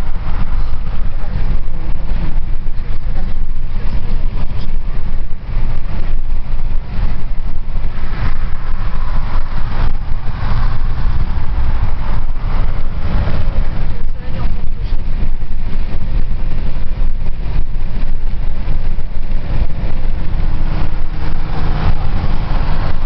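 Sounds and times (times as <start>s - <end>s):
road and wind noise in car: 0.0s - 23.0s.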